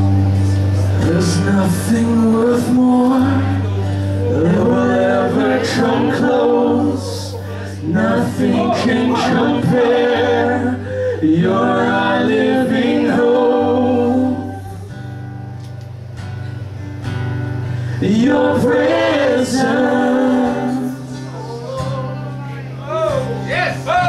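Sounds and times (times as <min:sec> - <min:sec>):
voices singing slow song: 0:00.0 - 0:15.4, 0:17.5 - 0:22.5
acoustic guitar: 0:00.0 - 0:24.0.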